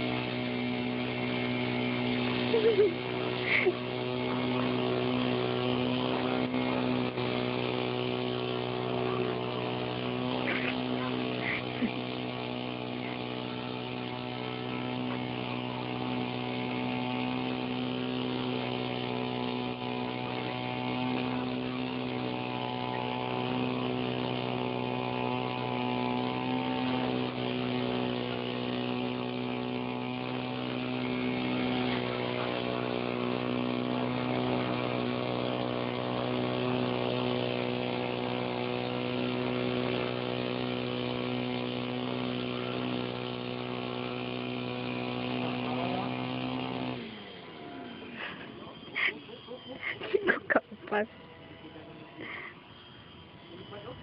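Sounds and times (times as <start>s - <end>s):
small electric motor buzzing: 0.0s - 54.0s.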